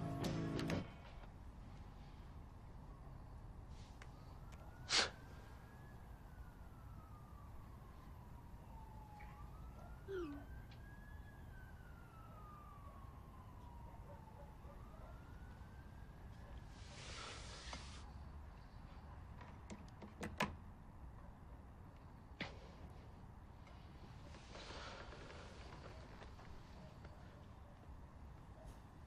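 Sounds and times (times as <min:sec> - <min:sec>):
faint siren wailing: 0:00.8 - 0:19.4, 0:22.9 - 0:29.0.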